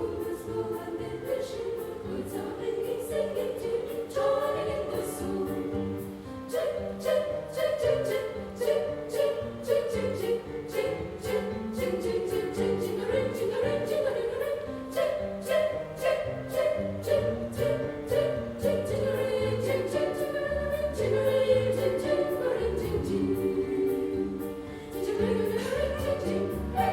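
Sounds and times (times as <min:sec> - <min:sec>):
accompaniment with bright strokes: 0:00.0 - 0:26.9
women's choir singing carol: 0:00.0 - 0:26.9.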